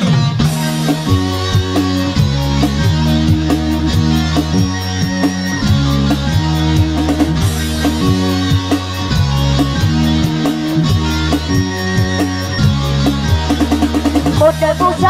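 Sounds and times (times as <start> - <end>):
held bass notes: 0.0 - 15.0
instrumental backing track: 0.0 - 15.0
plucked guitar notes: 0.0 - 15.0
steady beat: 0.0 - 15.0.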